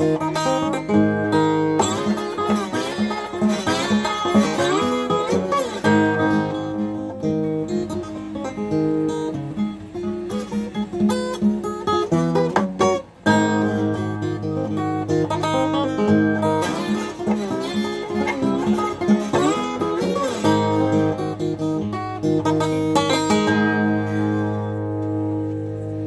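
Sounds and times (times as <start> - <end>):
slide acoustic guitar: 0.0 - 26.0.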